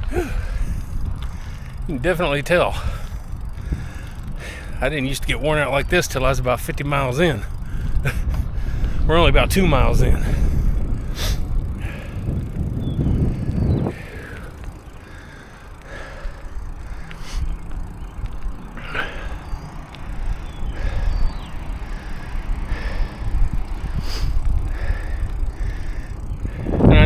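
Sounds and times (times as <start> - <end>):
bicycle click: 0.0 - 27.0
low rumble of wind and road: 0.0 - 27.0.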